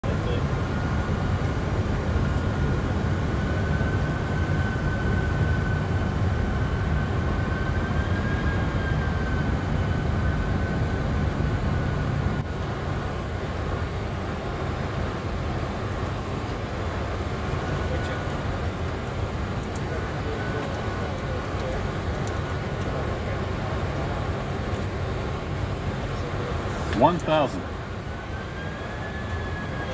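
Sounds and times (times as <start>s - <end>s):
airflow and engine noise: 0.0s - 29.9s
thin steady whine: 0.1s - 29.9s.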